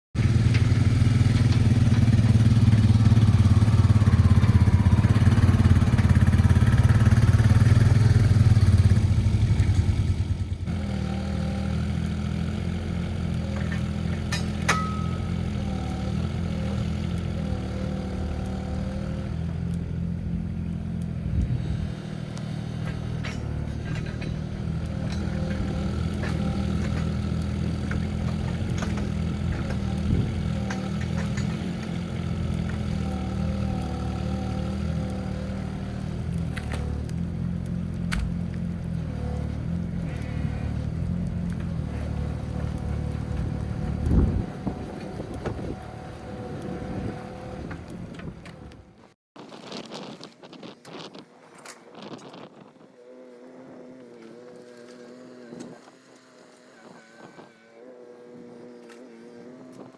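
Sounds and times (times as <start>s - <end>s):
diesel engine running: 0.2s - 49.1s.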